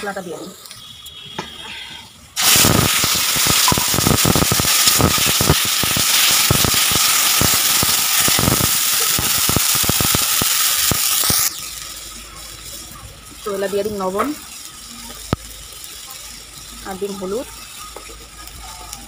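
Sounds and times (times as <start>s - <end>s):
food sizzling and crackling in oil: 2.4s - 19.0s.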